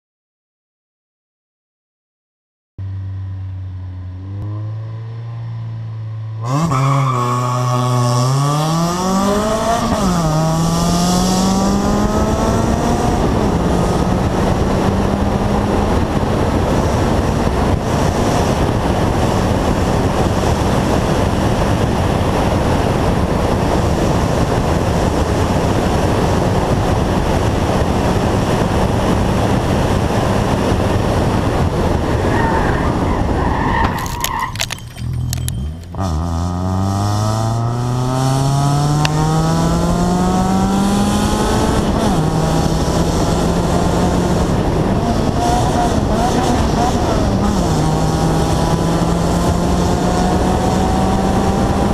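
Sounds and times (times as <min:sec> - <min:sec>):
rally car engine accelerating: 0:02.8 - 0:51.9
road and wind noise: 0:02.8 - 0:51.9.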